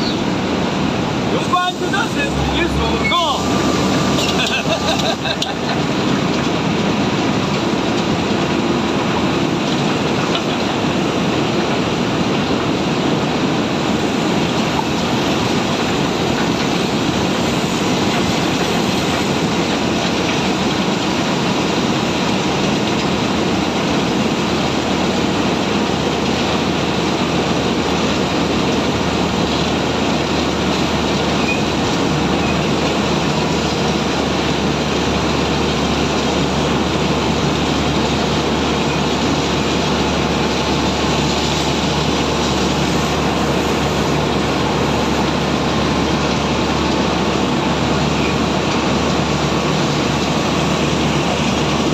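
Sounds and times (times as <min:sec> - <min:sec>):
diesel machinery running: 0:00.0 - 0:51.9.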